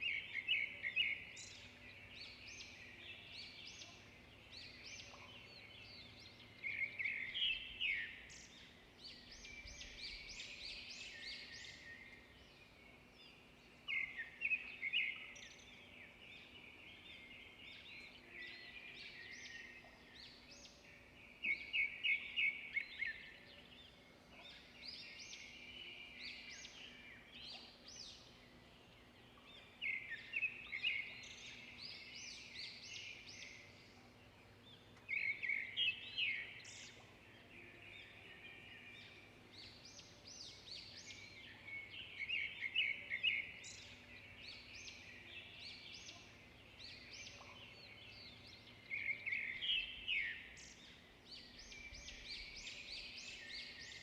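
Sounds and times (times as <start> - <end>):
birds twittering faintly: 0.0 - 54.0.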